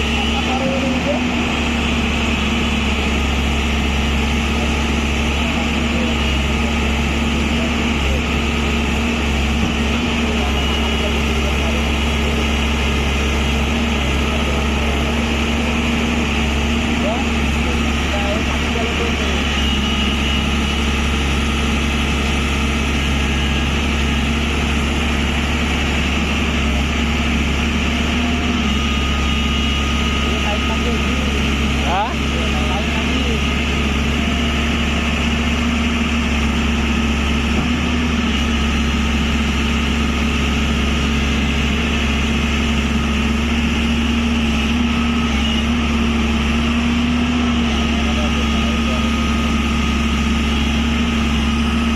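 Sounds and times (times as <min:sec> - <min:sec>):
excavator diesel engine humming: 0:00.0 - 0:51.9.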